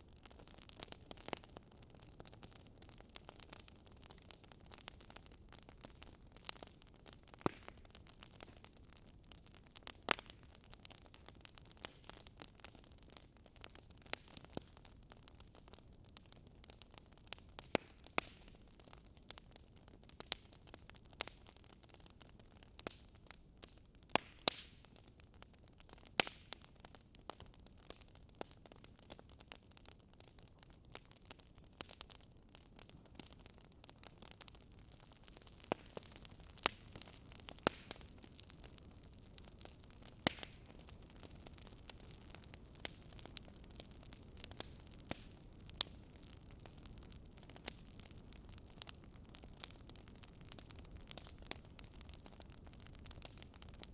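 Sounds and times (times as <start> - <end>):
faint steady hiss: 0.0 - 53.9
fire crackling and popping: 0.0 - 53.9.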